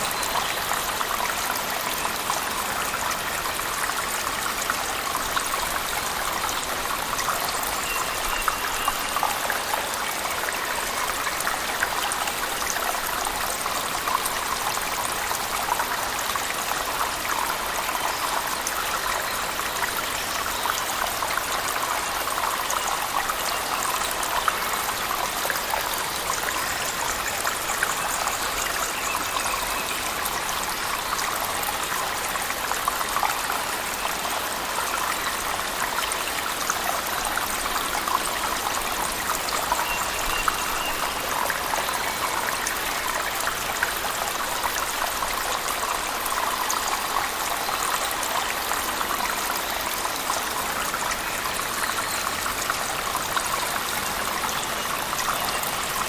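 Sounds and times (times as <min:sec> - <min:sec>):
rushing water: 0:00.0 - 0:56.0
water drips and splashes: 0:00.0 - 0:56.0.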